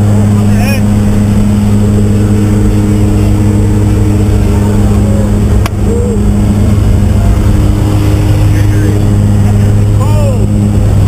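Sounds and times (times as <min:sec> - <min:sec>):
plane engine droning: 0:00.0 - 0:11.0
rushing wind noise: 0:00.0 - 0:11.0.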